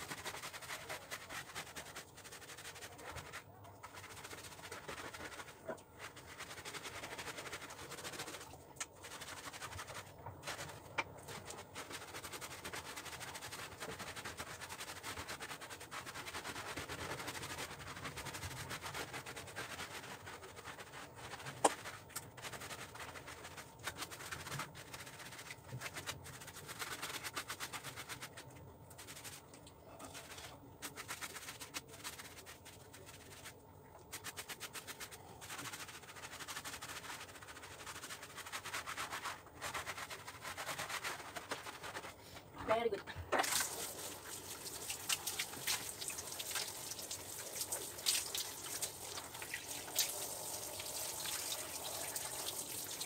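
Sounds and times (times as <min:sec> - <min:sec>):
brush scrubbing wet fur: 0:00.0 - 0:53.0.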